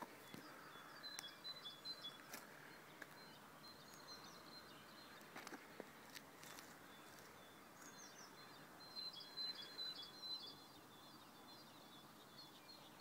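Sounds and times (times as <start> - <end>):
quiet outdoor background noise: 0.0 - 13.0
songbird chirping and trilling: 0.0 - 13.0.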